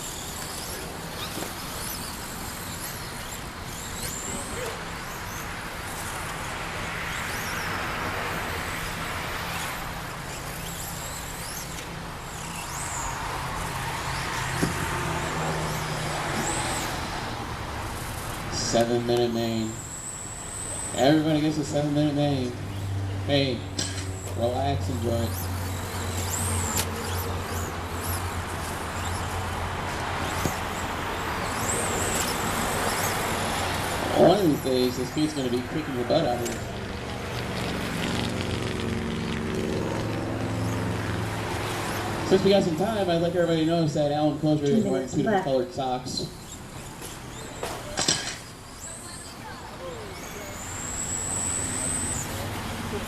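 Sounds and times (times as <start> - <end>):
electric motor whines: 0.0 - 53.0
steady low hum: 0.0 - 53.0
tyres on dirt: 0.0 - 53.0.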